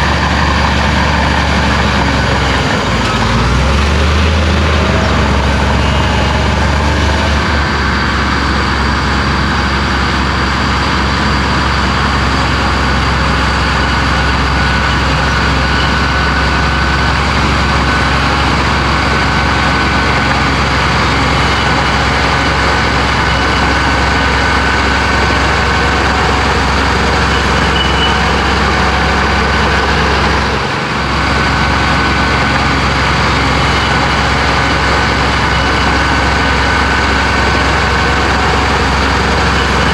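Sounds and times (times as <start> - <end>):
bulldozer diesel engine humming: 0.0 - 39.9.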